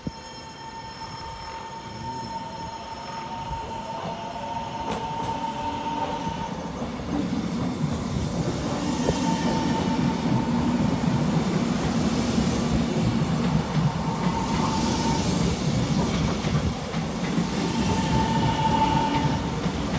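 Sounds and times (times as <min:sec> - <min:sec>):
train wheels rumbling over rails: 0:00.0 - 0:19.9.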